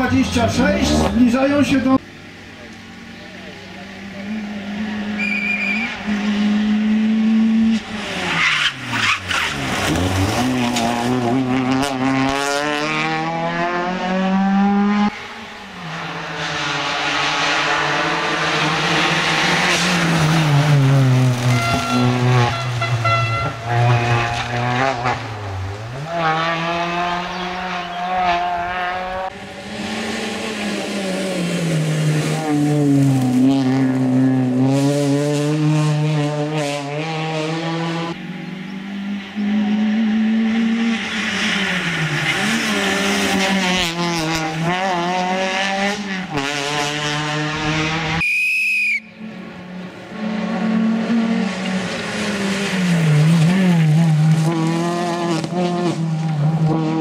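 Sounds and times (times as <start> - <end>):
rally car engine revving: 0.0 - 48.2, 49.1 - 57.0.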